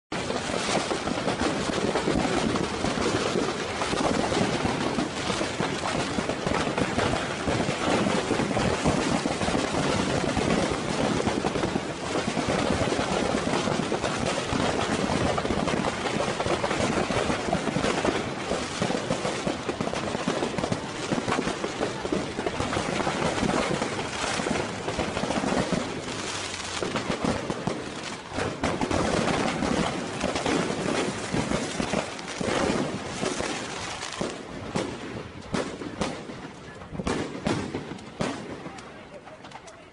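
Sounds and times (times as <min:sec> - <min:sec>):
fireworks crackling and banging: 0:00.1 - 0:39.9.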